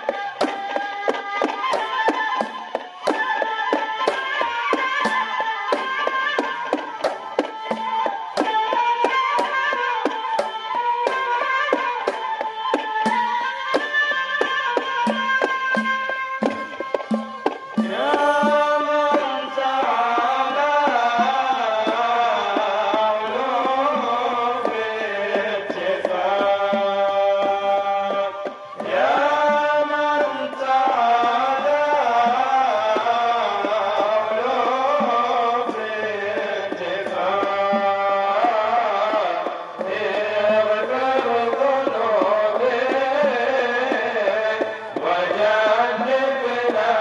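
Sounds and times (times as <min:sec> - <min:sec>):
hand drum beating: 0:00.0 - 0:47.0.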